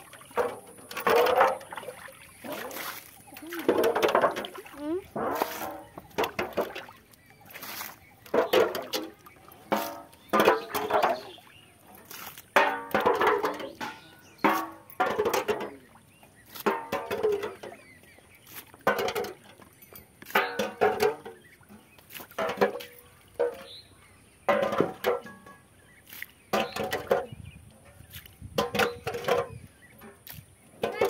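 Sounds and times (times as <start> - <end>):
metal plate scraping water trough: 0.0 - 31.0.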